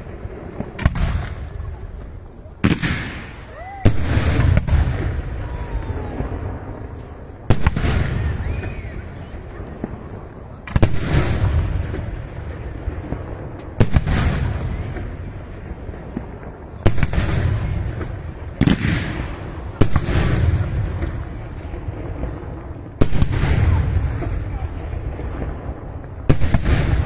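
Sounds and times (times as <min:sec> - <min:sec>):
fireworks bangs with crackling tail: 0:00.0 - 0:27.0.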